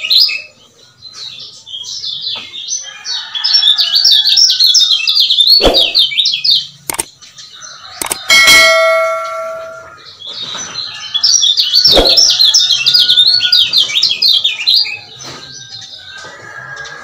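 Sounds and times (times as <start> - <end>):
bird chattering chirps: 0.0 - 16.3.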